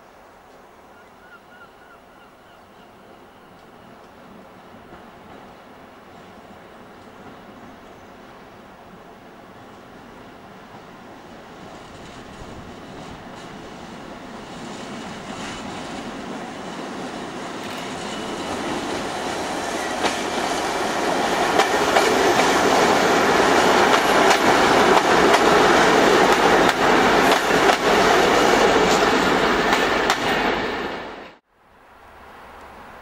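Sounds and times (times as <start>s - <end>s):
diesel train passing: 2.7s - 33.0s.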